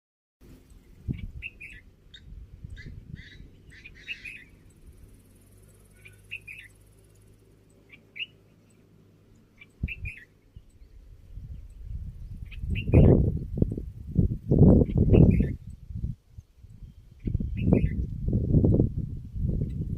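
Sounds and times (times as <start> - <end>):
bird chirping: 0.5 - 18.7.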